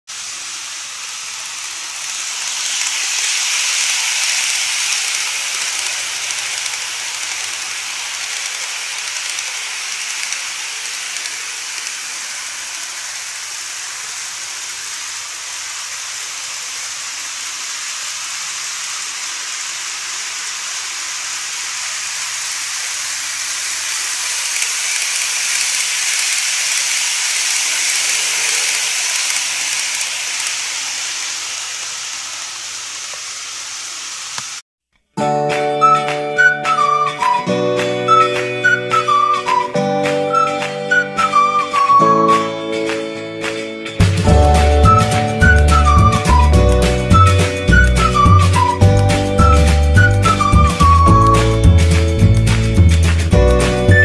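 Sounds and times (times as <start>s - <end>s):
model trains rolling hiss: 0.1s - 34.6s, 44.0s - 54.0s.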